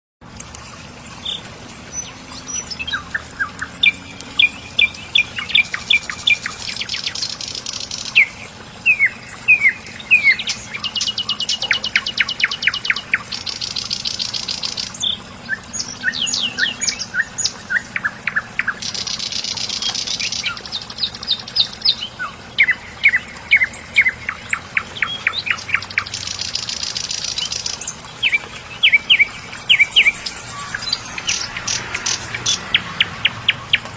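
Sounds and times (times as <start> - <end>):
songbird chirping and trilling: 0.4 - 33.9.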